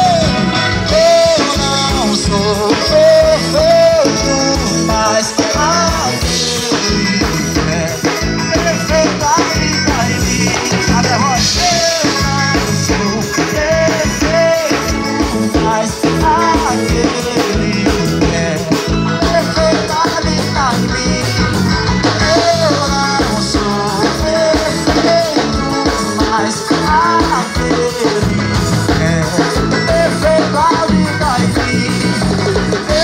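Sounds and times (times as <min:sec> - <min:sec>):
drum kit beat: 0:00.0 - 0:33.0
electric bass: 0:00.0 - 0:33.0
lead melody with bending notes: 0:00.0 - 0:33.0
live band playing: 0:00.0 - 0:33.0.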